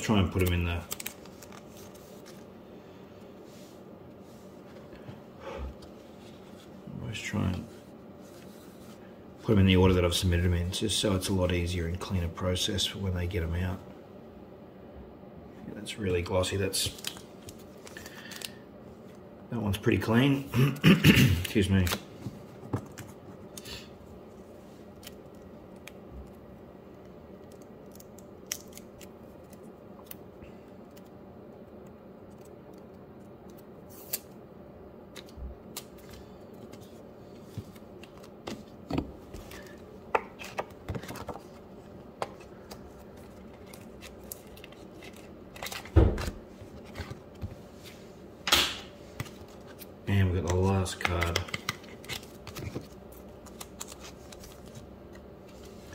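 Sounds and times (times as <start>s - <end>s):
faint steady hum: 0.0s - 55.9s.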